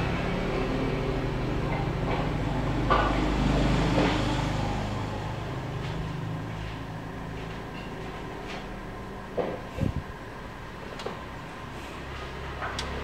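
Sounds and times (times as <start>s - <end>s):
low mechanical rumble with hum: 0.0s - 13.0s.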